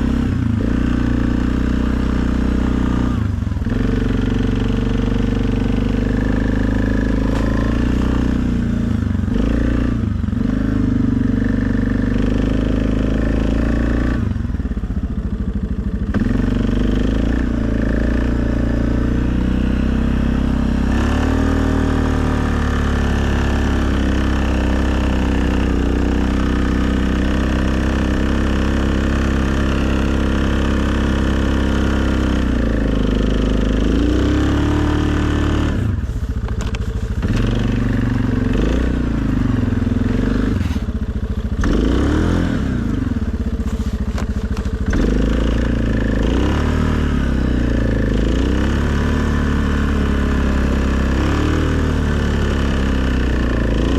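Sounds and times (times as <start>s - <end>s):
quad bike engine revving: 0.0s - 53.9s.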